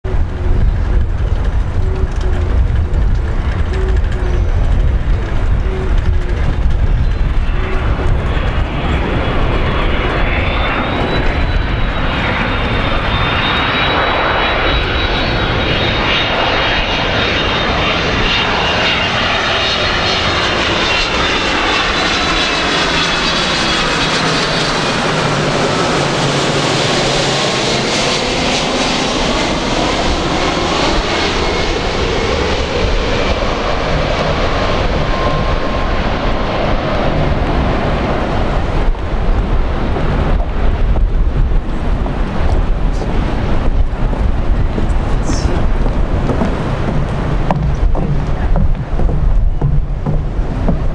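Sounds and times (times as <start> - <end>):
jet airliner passing overhead: 0.0 - 50.9.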